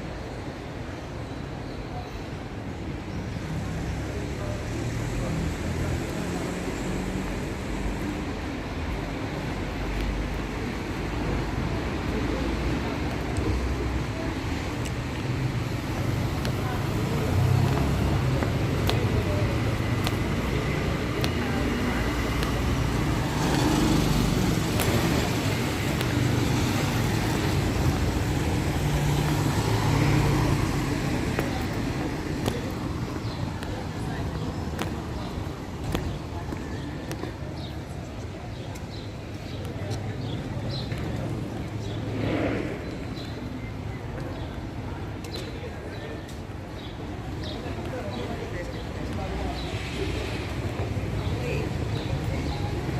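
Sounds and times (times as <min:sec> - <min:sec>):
street traffic noise: 0:00.0 - 0:52.9.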